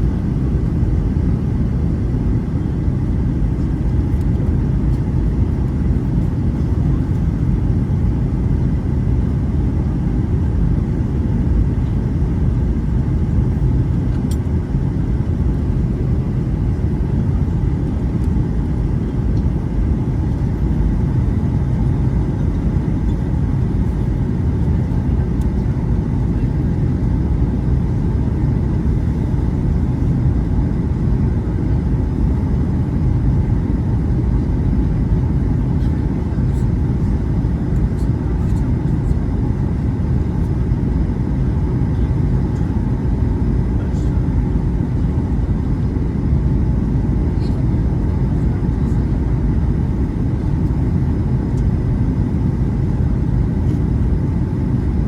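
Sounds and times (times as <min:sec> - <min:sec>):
faint steady hum tones: 0:00.0 - 0:55.0
jet engine cabin roar: 0:00.0 - 0:55.0.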